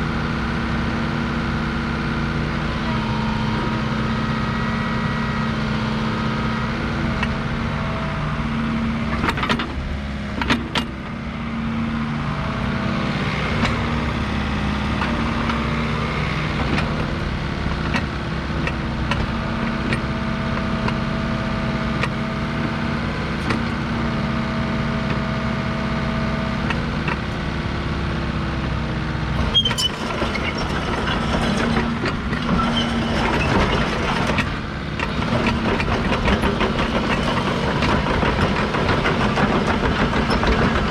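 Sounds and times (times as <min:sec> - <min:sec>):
excavator diesel engine humming: 0:00.0 - 0:40.9.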